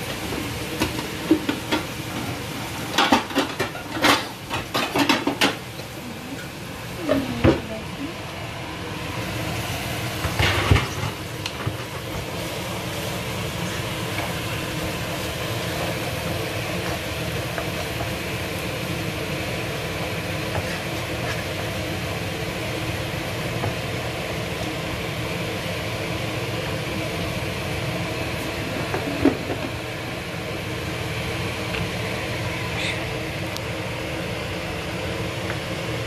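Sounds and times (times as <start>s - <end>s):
onions frying in a pan: 0.0s - 36.0s
steady hum and hiss: 0.0s - 36.0s.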